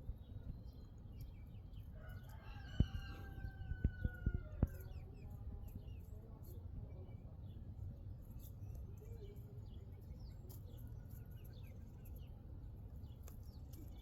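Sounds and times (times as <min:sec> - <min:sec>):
chicks peeping and chirping: 0:00.0 - 0:14.0.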